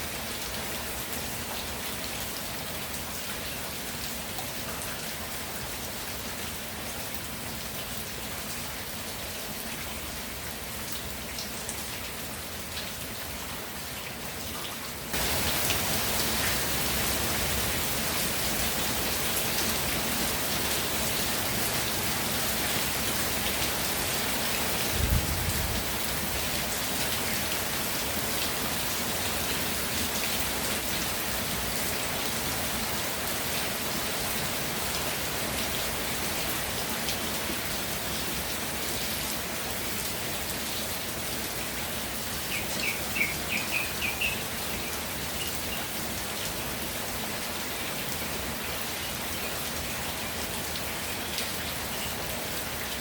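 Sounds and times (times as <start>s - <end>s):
rain pattering: 0.1s - 53.0s.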